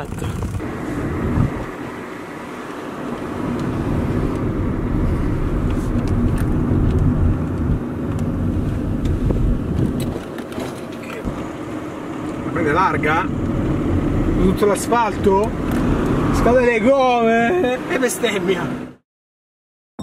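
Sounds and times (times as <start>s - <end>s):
car engine and road noise inside cabin: 0.0s - 19.0s.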